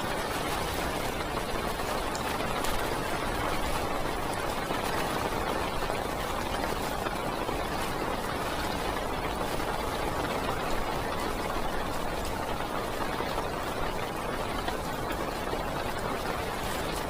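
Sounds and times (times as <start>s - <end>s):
heavy rain on car roof: 0.0s - 17.0s.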